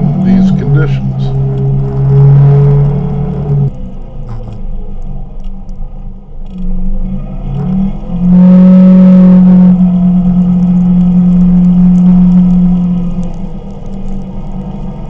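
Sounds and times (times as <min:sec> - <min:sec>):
engine pulling under throttle: 0:00.0 - 0:15.0.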